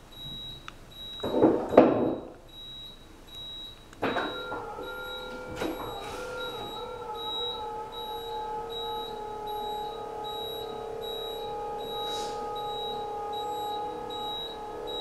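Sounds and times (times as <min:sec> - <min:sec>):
faint high beeps: 0:00.1 - 0:15.0.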